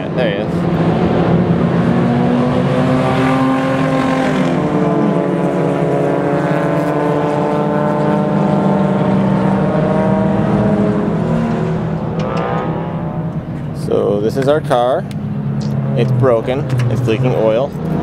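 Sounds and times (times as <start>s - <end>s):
race car engines running hard: 0.0s - 18.0s.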